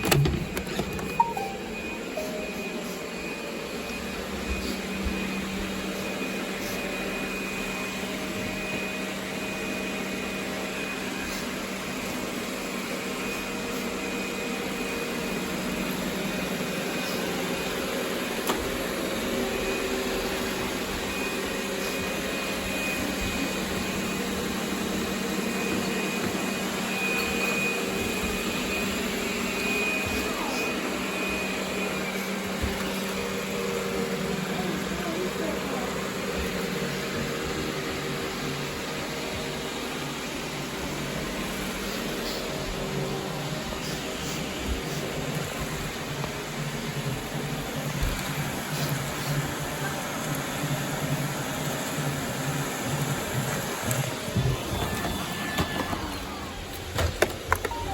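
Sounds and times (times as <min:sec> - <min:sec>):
robot vacuum running: 0:00.0 - 0:57.9.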